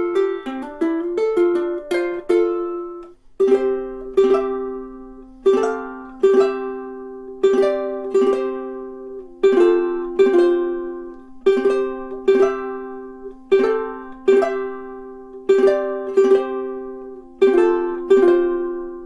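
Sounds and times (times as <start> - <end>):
ukulele chords strummed: 0.0 - 19.0.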